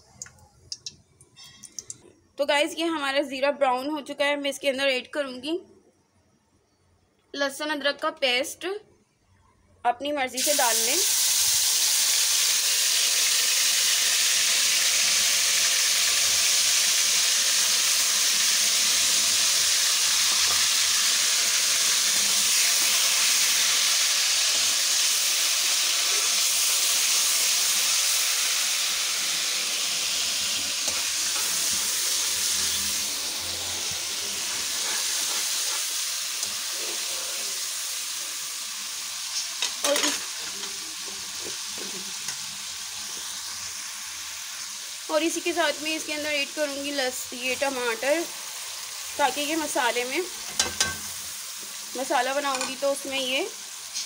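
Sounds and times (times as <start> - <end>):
paste sizzling in hot oil: 10.4 - 54.0.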